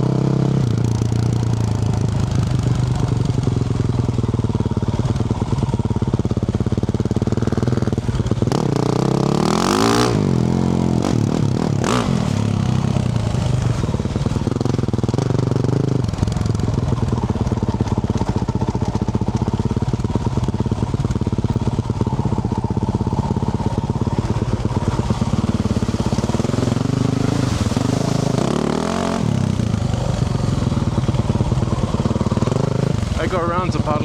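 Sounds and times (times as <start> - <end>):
motorcycle engine under throttle: 0.0 - 34.0.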